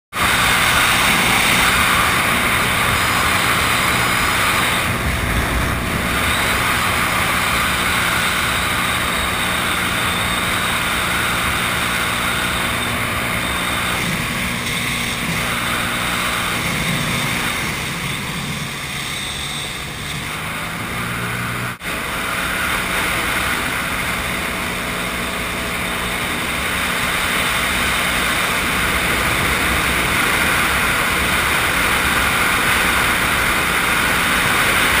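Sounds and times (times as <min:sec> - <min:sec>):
personal watercraft engine running: 0:00.1 - 0:35.0.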